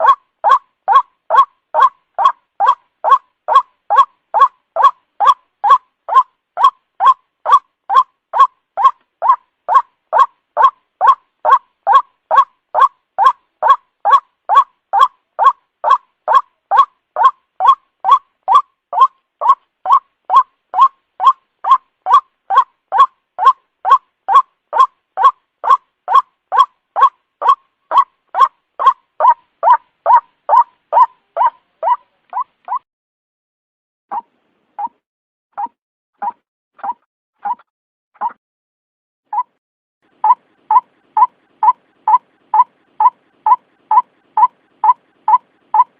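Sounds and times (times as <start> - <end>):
waterhen calling: 0.0 - 32.5, 40.1 - 45.9.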